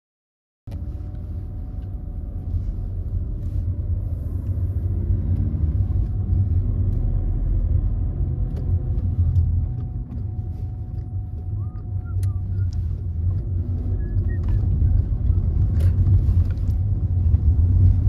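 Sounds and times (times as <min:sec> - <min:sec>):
car engine and road noise: 0:00.7 - 0:18.0.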